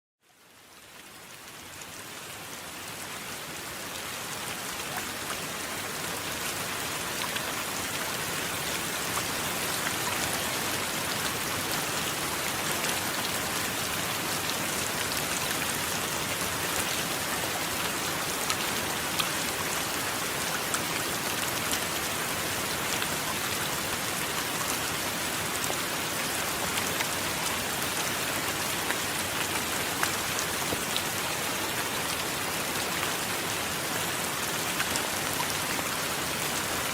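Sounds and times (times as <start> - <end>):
heavy rain: 0.2 - 36.9.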